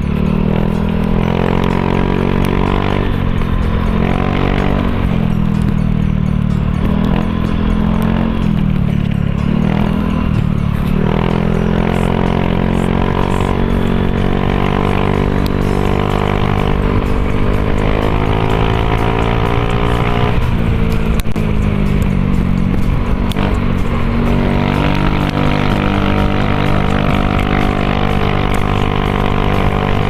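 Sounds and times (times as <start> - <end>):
background music: 0.0 - 30.0
motor scooter running: 0.0 - 30.0.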